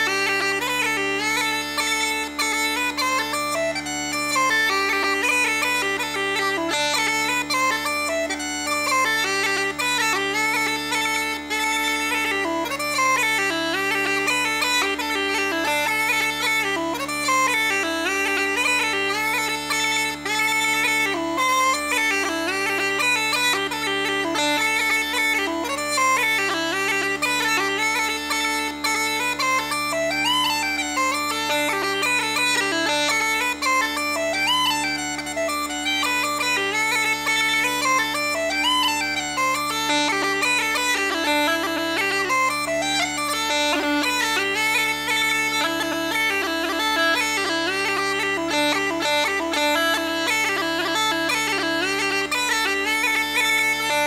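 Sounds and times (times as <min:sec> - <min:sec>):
bagpipe jig melody: 0:00.0 - 0:54.0.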